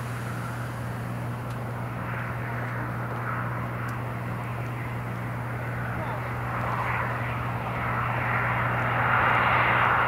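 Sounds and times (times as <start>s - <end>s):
distant jet engines rushing: 0.0s - 10.0s
low engine hum: 0.0s - 10.0s.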